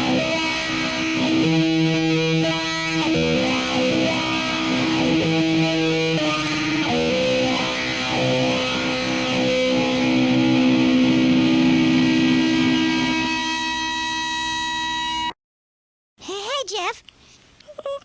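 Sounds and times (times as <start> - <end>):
distorted electric guitar with reverb: 0.0 - 15.3.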